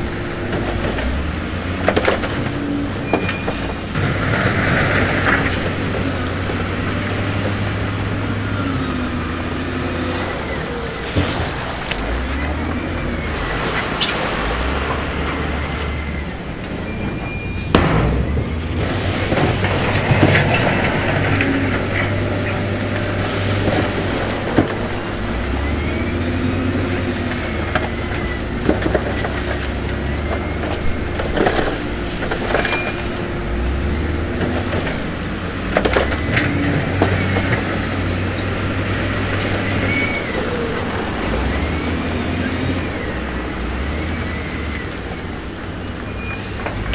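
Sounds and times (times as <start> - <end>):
bulldozer diesel engine under load: 0.0 - 46.9
steel tracks clanking and squealing: 0.0 - 46.9.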